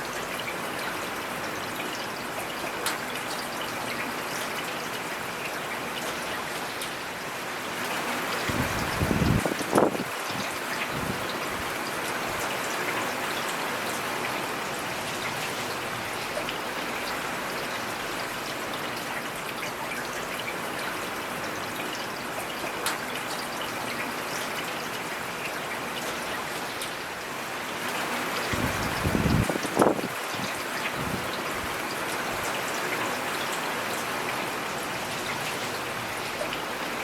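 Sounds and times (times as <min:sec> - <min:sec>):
rain pattering: 0:00.0 - 0:37.0.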